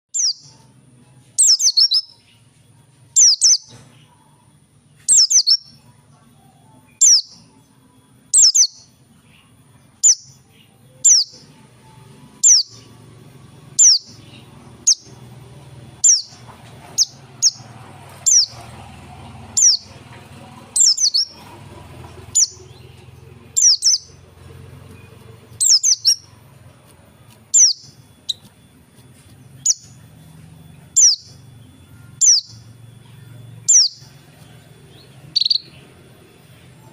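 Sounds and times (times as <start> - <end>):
low background hum: 0.1 - 36.9.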